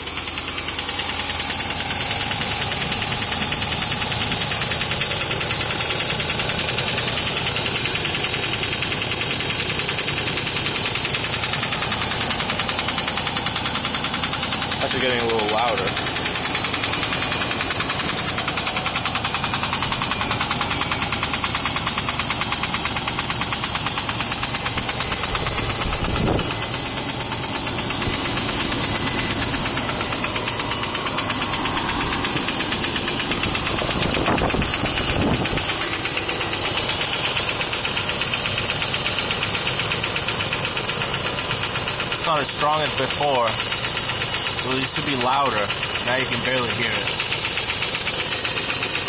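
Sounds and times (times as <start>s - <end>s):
car engine idling: 0.0s - 49.0s
rapid engine ticking: 0.0s - 49.0s.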